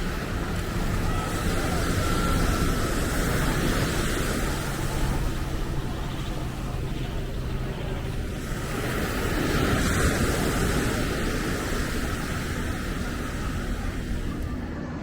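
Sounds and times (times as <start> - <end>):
road traffic rush: 0.0 - 15.0
surf: 0.0 - 15.0.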